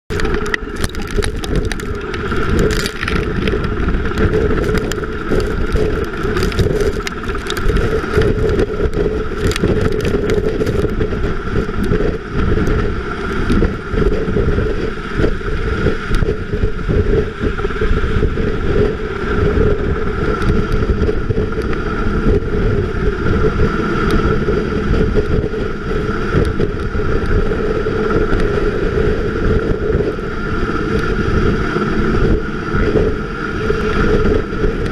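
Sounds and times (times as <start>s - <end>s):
wind buffeting microphone: 0.1s - 34.9s.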